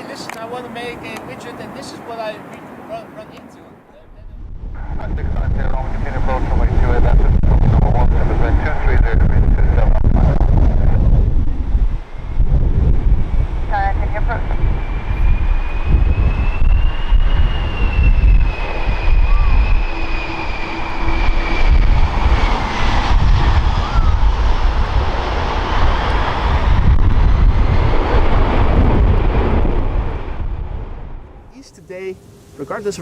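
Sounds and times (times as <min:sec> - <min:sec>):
jet engines whining and rumbling: 0:00.0 - 0:33.0.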